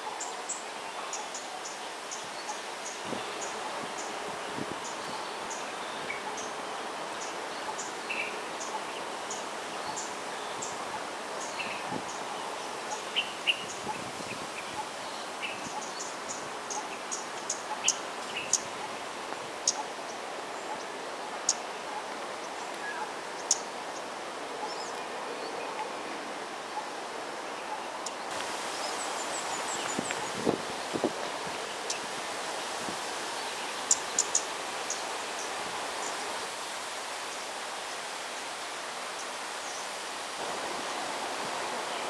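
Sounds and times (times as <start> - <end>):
outdoor background noise: 0.0 - 42.0.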